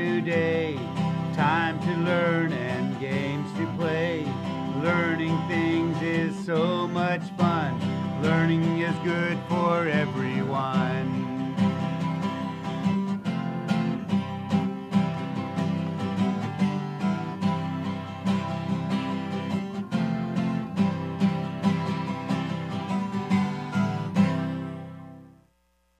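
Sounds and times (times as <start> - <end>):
acoustic guitar music: 0.0 - 25.4.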